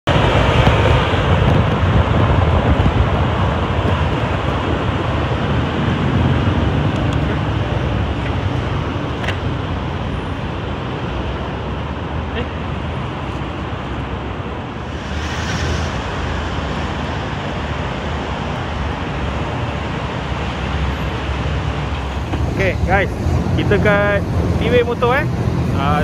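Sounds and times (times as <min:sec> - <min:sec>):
street traffic: 0:00.0 - 0:26.0
scooter engine and road noise: 0:00.1 - 0:26.0.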